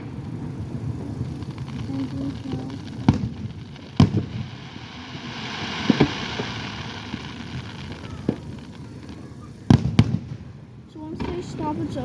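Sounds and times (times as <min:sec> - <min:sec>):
fireworks bangs: 0:00.0 - 0:12.0
fireworks hissing: 0:00.0 - 0:12.0.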